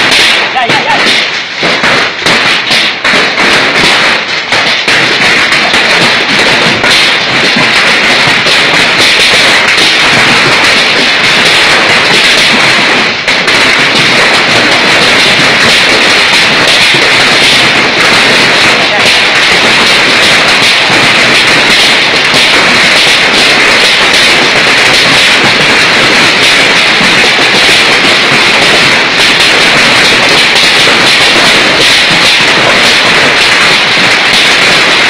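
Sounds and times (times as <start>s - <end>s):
heavy hail clattering: 0.0s - 35.0s.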